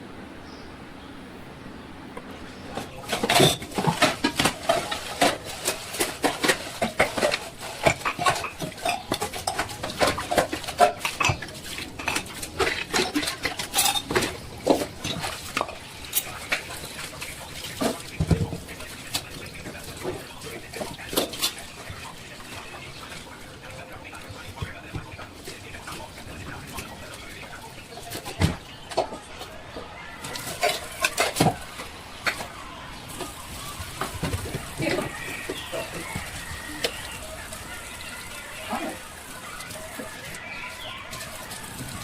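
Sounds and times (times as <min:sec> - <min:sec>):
utensils clinking against dishware: 0:02.7 - 0:42.0.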